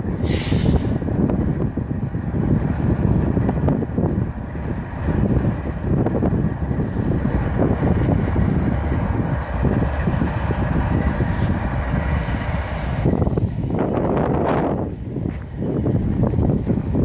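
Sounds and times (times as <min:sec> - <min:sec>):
locomotives rumbling: 0:00.0 - 0:17.0
train wheels on rails: 0:00.0 - 0:17.0.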